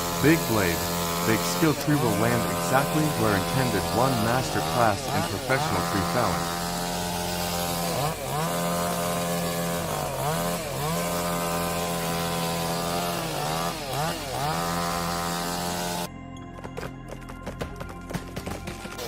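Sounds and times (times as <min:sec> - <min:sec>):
chainsaw running at high revs: 0:00.0 - 0:16.1, 0:18.1 - 0:19.0.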